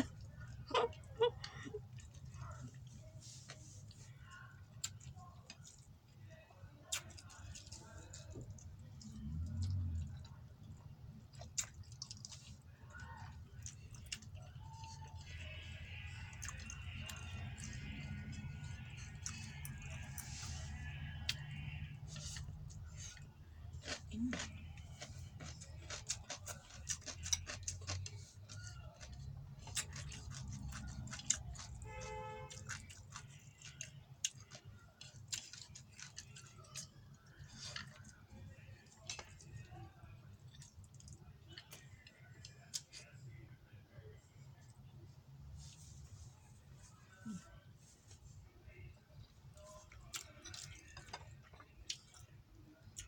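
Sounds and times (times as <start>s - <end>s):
person chewing food: 0.0s - 43.1s, 49.5s - 53.0s.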